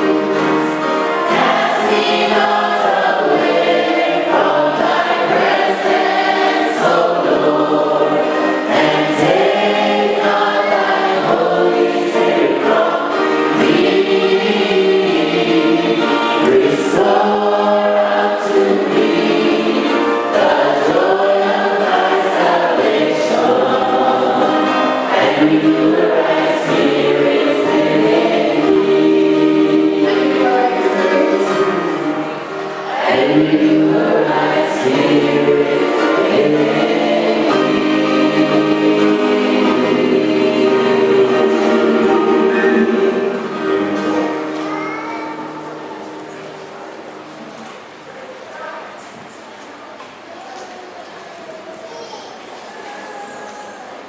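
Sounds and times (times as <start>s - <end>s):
choir singing a hymn: 0.0s - 48.5s.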